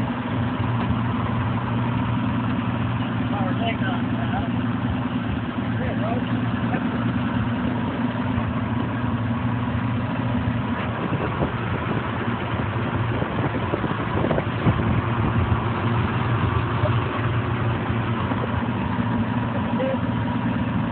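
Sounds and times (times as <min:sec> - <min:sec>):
small tractor engine idling: 0:00.0 - 0:20.9.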